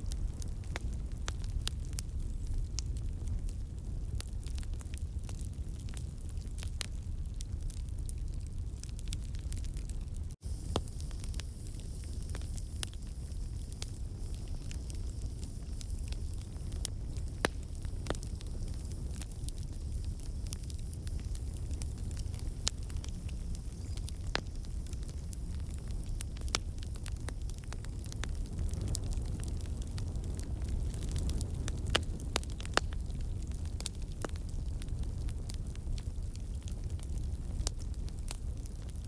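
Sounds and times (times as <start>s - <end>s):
logs popping in fire: 0.0s - 39.0s
low rumble of fire: 0.0s - 39.0s.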